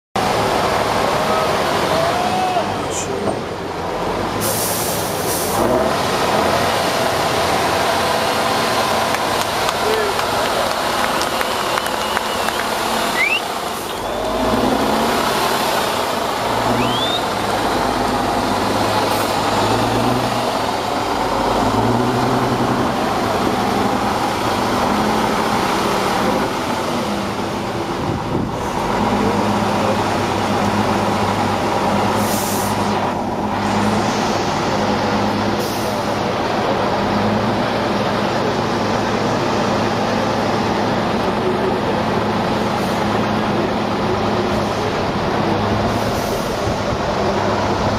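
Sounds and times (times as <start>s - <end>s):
truck diesel engine revving: 0.2s - 47.9s.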